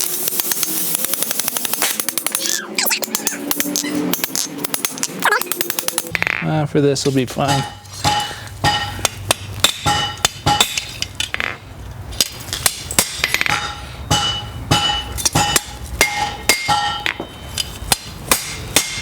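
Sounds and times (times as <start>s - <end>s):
hammer striking steel on anvil: 0.0s - 6.4s, 7.3s - 11.6s, 12.2s - 19.0s.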